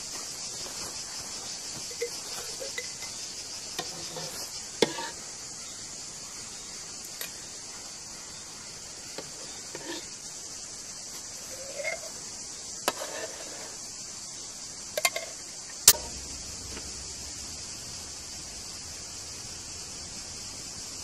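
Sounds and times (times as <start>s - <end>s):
high insect hiss: 0.0s - 21.0s.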